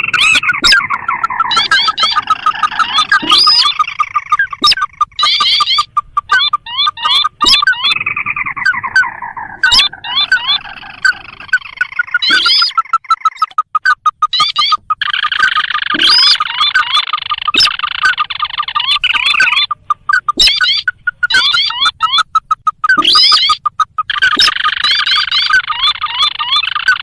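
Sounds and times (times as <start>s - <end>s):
crake calls: 0.0s - 27.0s.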